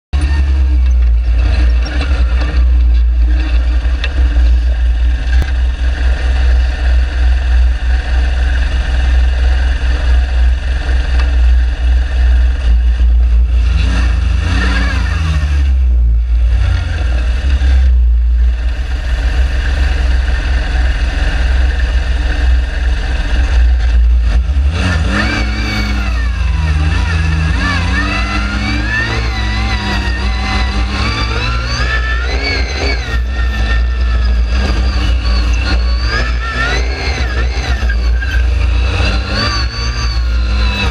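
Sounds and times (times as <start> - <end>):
dune buggy engine revving: 0.1 - 40.9
heavy low rumble: 0.1 - 40.9.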